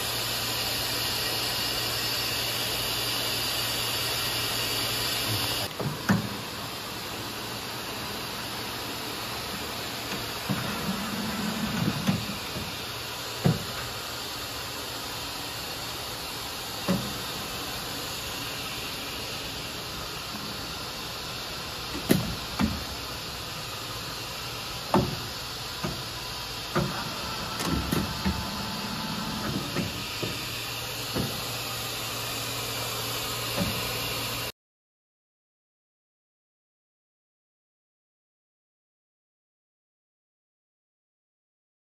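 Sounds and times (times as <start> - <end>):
machine shop hiss and hum: 0.0 - 34.5.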